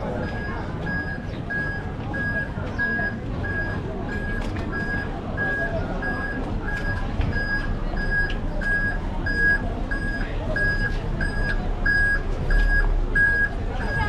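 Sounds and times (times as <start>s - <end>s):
street noise: 0.0s - 14.0s
vehicle reversing beeper: 0.2s - 14.0s.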